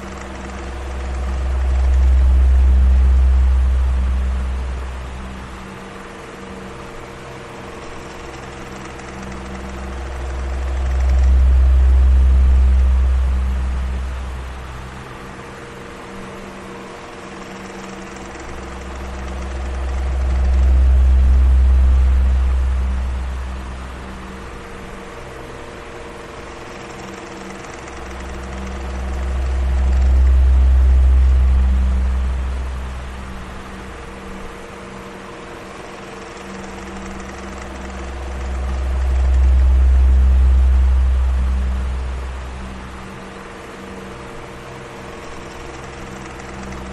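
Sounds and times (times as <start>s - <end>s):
deep rumble: 0.0s - 15.7s, 17.3s - 46.9s
electric fan whooshing: 0.0s - 46.9s.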